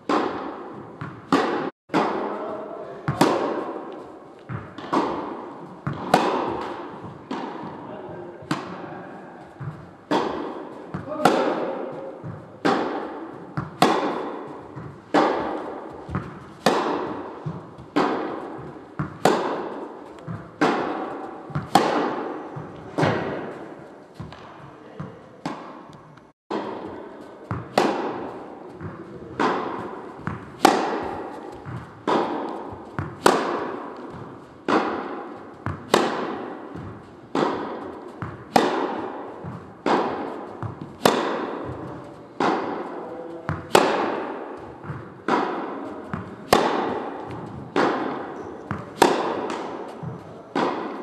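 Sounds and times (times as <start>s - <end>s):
tennis balls struck by racquets: 0.0s - 51.0s.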